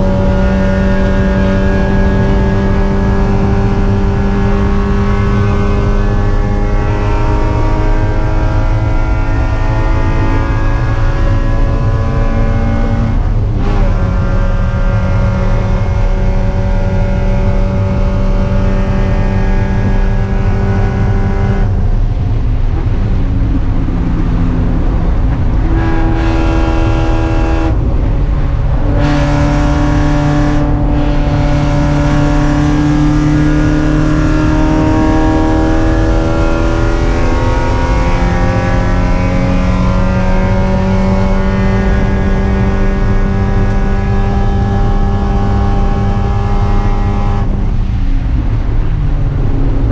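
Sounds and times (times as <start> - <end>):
race car engine shifting gears: 0.0 - 49.9.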